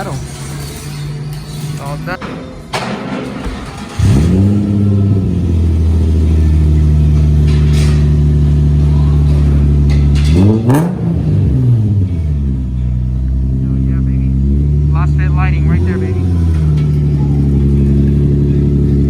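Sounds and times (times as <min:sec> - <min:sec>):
car engine idling: 0:00.0 - 0:19.0
engine throttle blip: 0:03.4 - 0:19.0.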